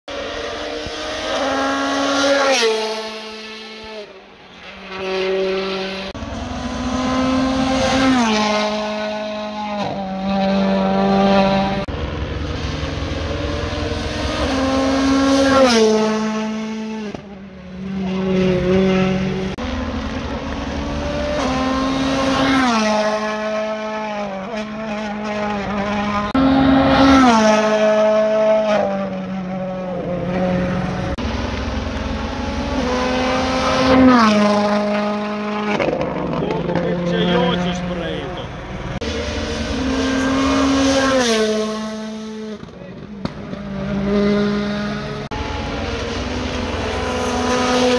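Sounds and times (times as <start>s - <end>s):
rally car engines revving hard: 0.1s - 47.9s.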